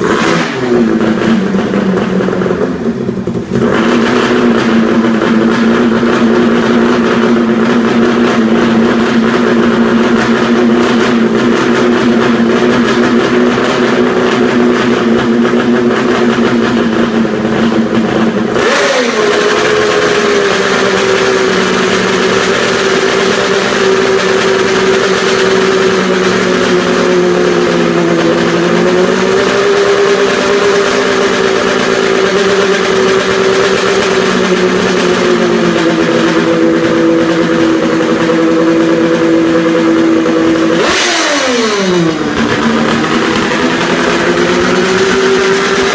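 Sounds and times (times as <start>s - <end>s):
two-stroke engine running: 0.0s - 45.9s.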